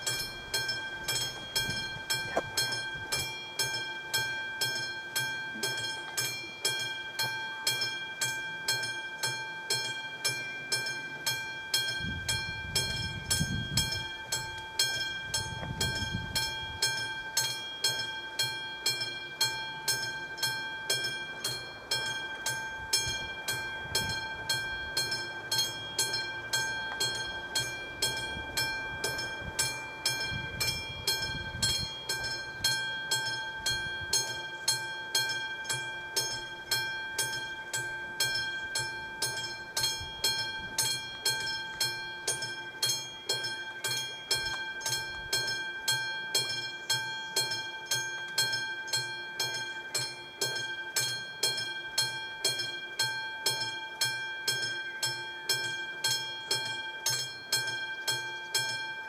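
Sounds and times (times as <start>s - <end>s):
mechanical warning bell ringing: 0.0s - 59.0s.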